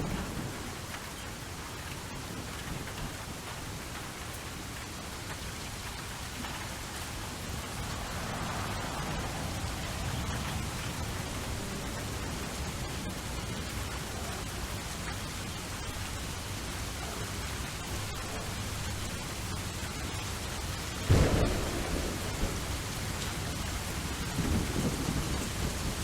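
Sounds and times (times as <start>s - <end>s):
thunder rumble: 0.0s - 3.5s, 6.4s - 26.0s
steady rain falling: 0.0s - 26.0s.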